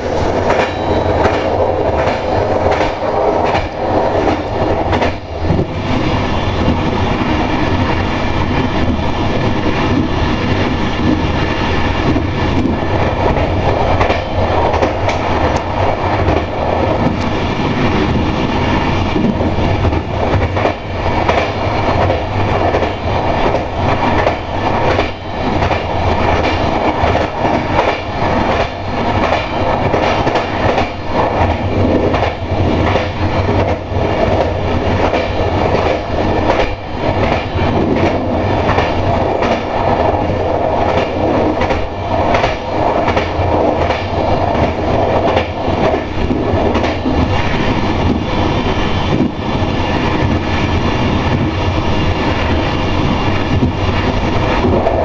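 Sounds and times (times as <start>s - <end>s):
train rumble and hum: 0.0s - 55.0s.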